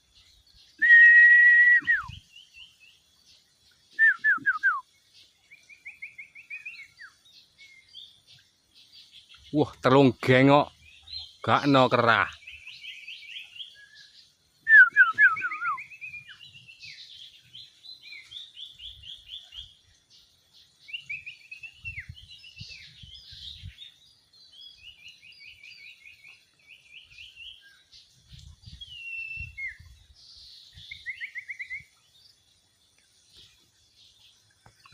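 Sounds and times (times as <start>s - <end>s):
birds singing chirped notes: 0.0s - 34.9s.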